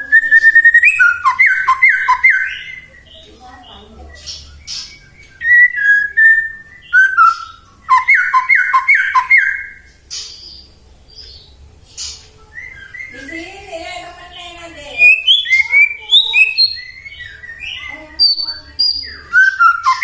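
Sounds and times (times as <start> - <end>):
bird singing whistled phrases: 0.0 - 10.5, 12.0 - 13.5, 14.8 - 20.0
bird scratchy chatters: 0.0 - 20.0.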